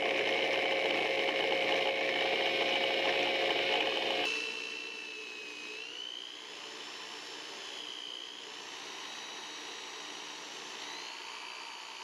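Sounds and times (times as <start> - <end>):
power drill whine: 0.0 - 12.0.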